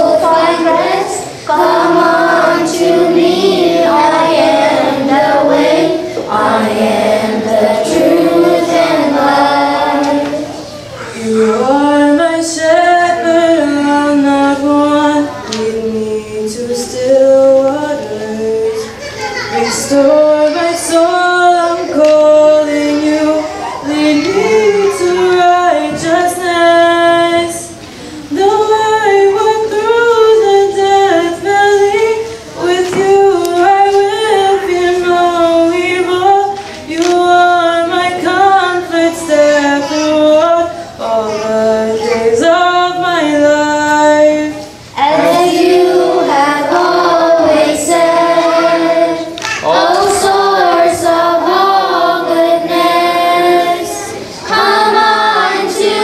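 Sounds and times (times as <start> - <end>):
children's choir singing a hymn: 0.0 - 56.0.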